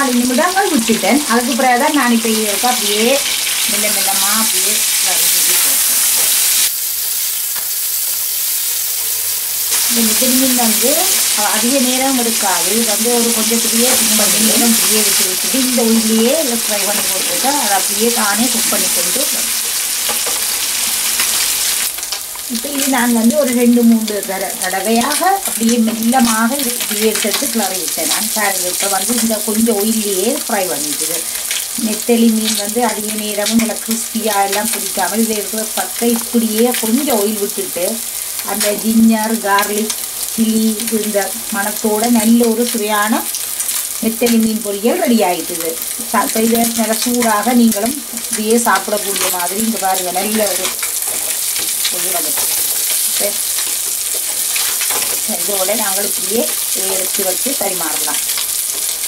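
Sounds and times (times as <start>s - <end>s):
fish sizzling in a pan: 0.0s - 59.0s.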